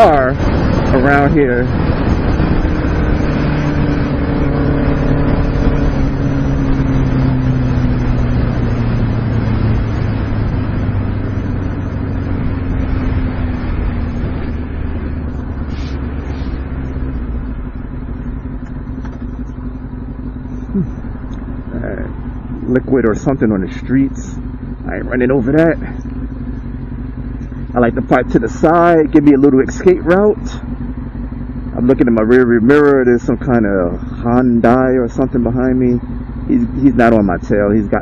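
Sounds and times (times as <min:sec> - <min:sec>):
motorcycle engine decelerating: 0:00.0 - 0:38.0.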